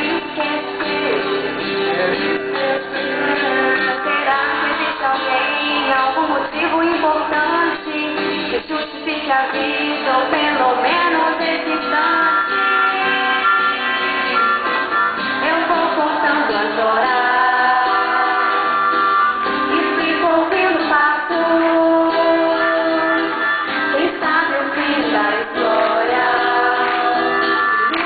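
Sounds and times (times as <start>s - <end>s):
woman singing: 0.0s - 14.4s, 15.2s - 28.0s
small acoustic band playing: 0.0s - 28.0s.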